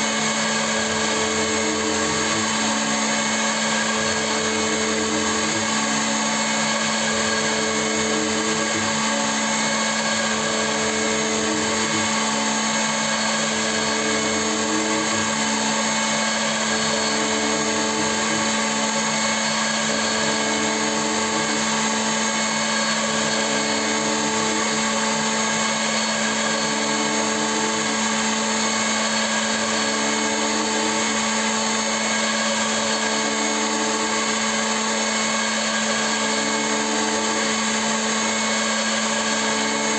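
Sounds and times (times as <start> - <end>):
intermittent second machine tone: 0.0 - 39.9
milling machine motor whine: 0.0 - 39.9.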